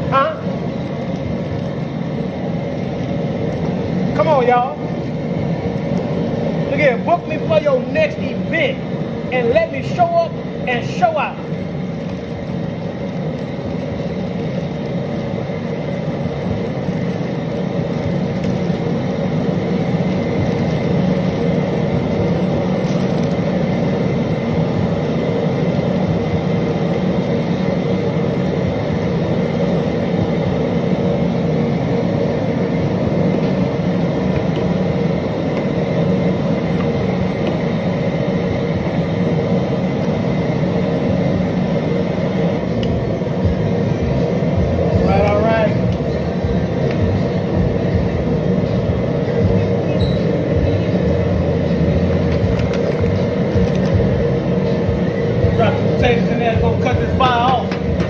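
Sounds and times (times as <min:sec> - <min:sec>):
propane burner flame rushing: 0:00.0 - 0:58.0.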